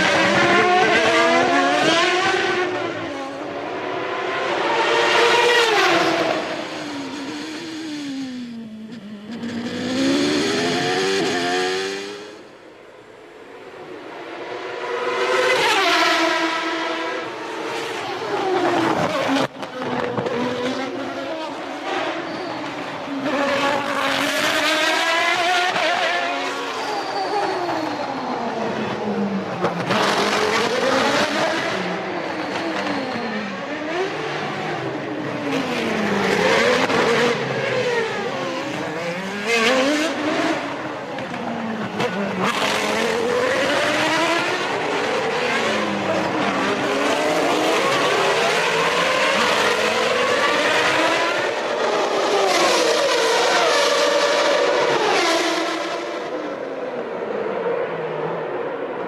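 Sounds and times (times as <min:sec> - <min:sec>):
racing car engines at high revs: 0:00.0 - 0:59.0.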